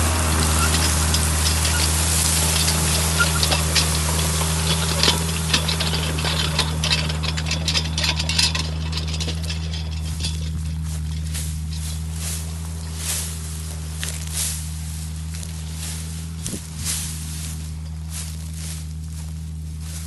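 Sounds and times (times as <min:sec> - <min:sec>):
dry grass stems crackling: 0:00.0 - 0:20.0
tractor engine running: 0:00.0 - 0:20.0.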